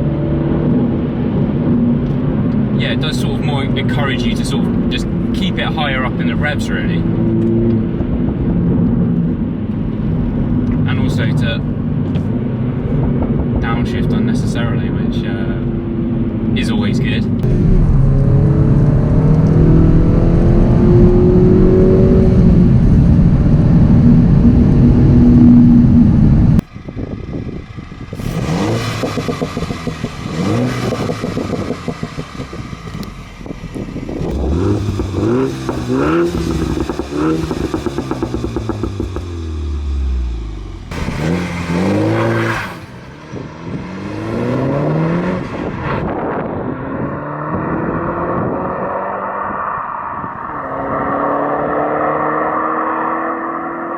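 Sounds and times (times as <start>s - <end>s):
car engine revving: 0.0s - 53.9s
exhaust cracks: 0.6s - 47.2s.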